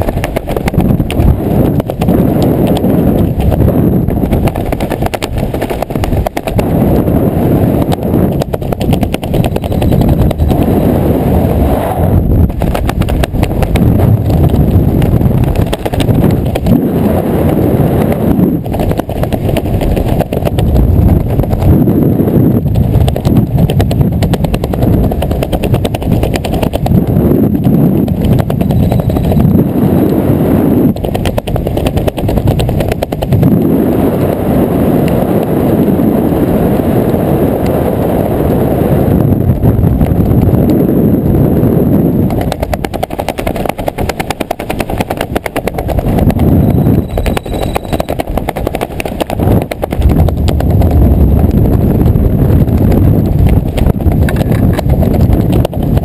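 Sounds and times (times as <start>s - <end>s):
parachute fabric flapping: 0.0s - 56.0s
wind buffeting microphone: 0.0s - 56.0s.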